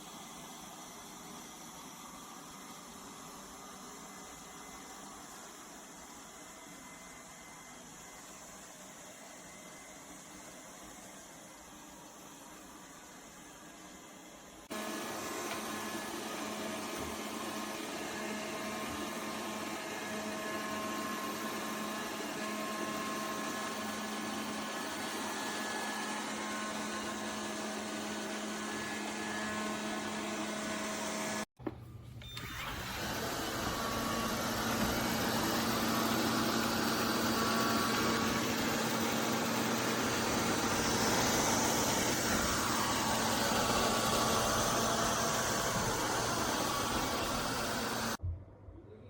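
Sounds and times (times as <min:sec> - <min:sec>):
robot vacuum motor and fan hum: 0:00.0 - 0:48.2.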